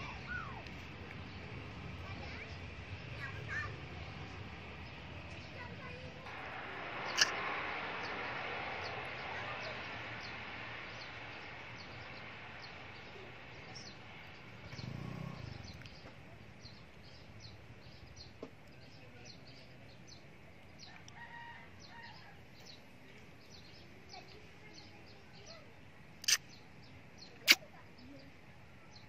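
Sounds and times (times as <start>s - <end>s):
distant turboprop engine noise: 0.0s - 27.4s
birds chirping: 0.0s - 29.0s.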